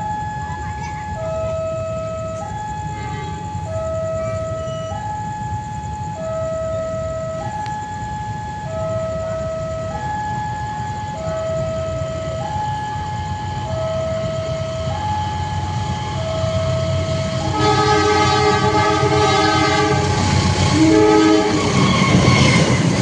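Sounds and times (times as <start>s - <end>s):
electronic two-tone warning siren: 0.0s - 23.0s.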